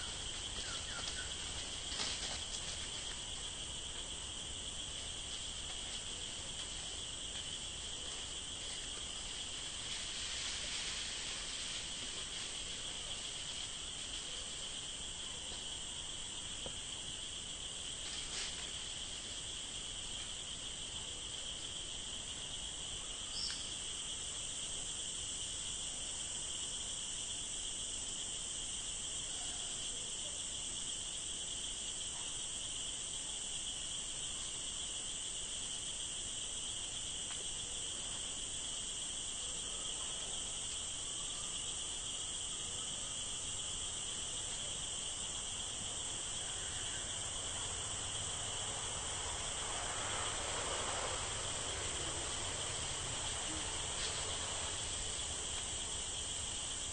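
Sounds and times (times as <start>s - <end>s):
forest insects droning: 0.0s - 56.9s.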